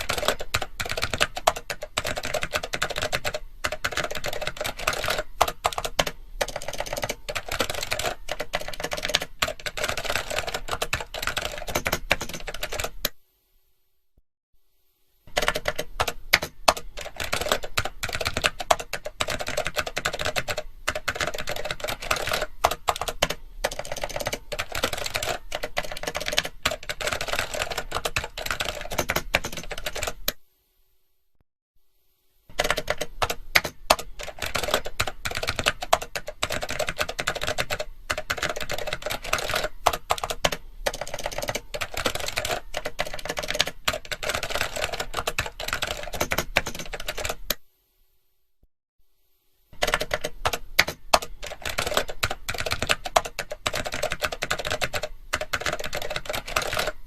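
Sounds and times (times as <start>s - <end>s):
fast typing on keyboard: 0.0s - 13.2s, 15.3s - 30.4s, 32.5s - 47.6s, 49.8s - 57.0s.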